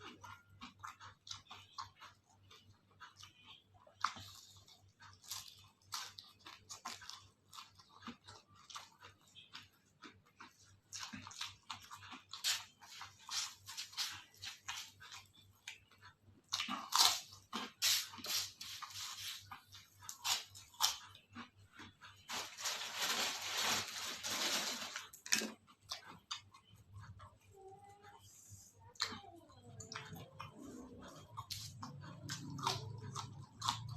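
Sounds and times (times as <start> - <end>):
person chewing crisp food: 0.0 - 33.9.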